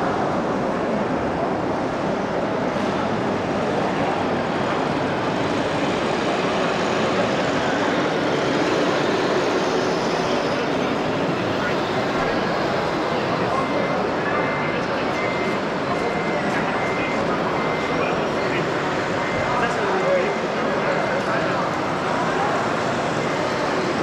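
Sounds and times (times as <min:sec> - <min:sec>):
busy exhibition hall din: 0:00.0 - 0:24.0.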